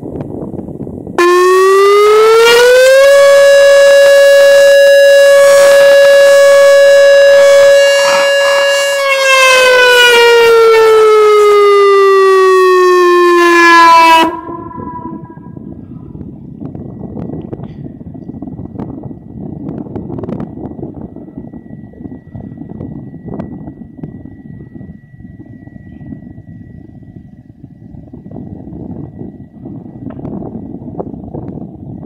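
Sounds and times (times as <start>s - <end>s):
outdoor warning siren: 1.2s - 32.0s.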